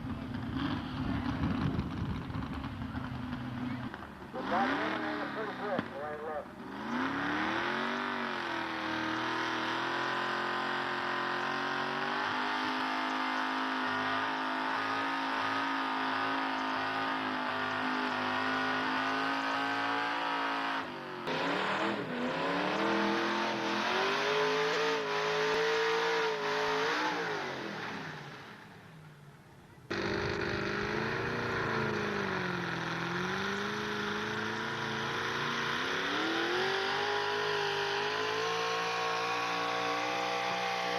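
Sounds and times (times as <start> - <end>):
truck engine at high revs: 0.0 - 29.2, 29.8 - 40.9.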